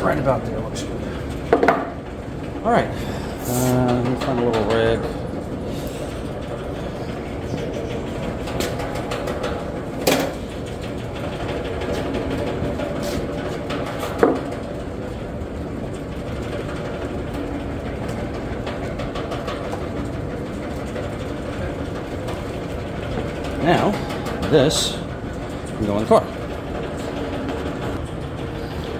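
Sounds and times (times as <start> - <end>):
machine droning: 0.0 - 28.9.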